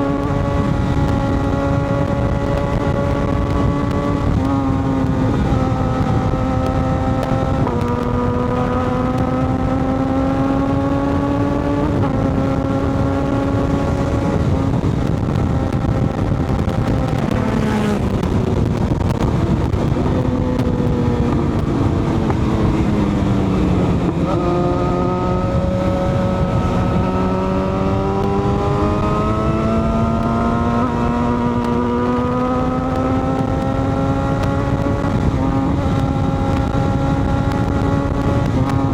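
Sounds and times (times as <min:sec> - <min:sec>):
motorcycle engine shifting gears: 0:00.0 - 0:38.9
wind and road noise: 0:00.0 - 0:38.9.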